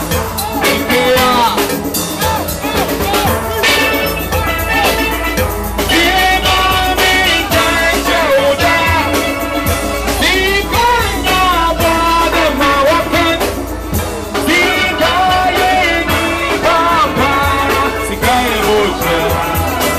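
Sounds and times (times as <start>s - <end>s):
drums keeping a beat: 0.0s - 19.9s
steel band playing: 0.0s - 19.9s
voices singing: 0.0s - 19.9s.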